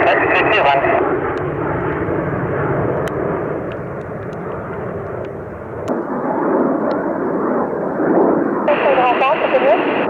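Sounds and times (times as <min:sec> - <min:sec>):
jet aircraft engine rushing: 0:00.0 - 0:10.0.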